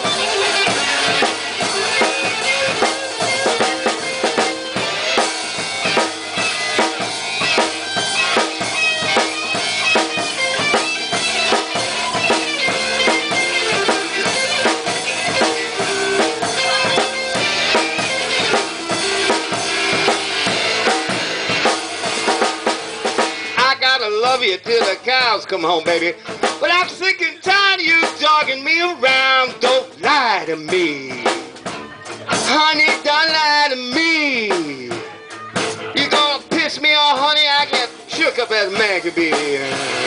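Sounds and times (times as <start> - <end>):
blues band playing: 0.0 - 40.0
drum kit beat: 0.0 - 40.0.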